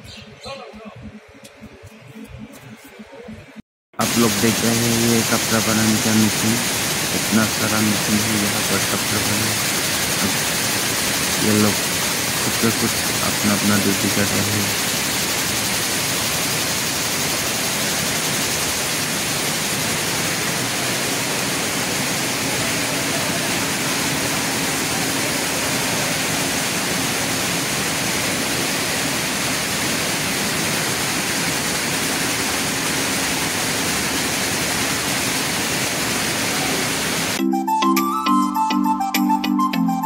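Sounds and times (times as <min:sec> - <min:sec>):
weaving looms running: 0:04.0 - 0:37.4.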